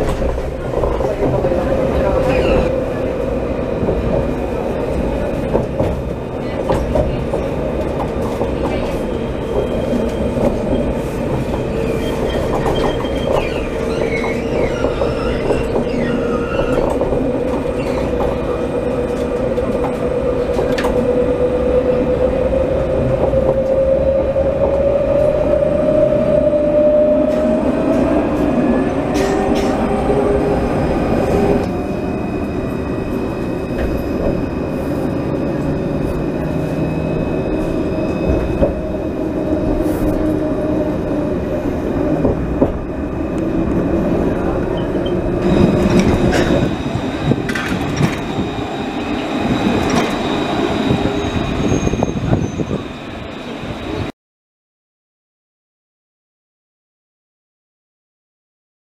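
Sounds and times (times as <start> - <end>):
tram wheels rumbling on track: 0.0 - 54.1.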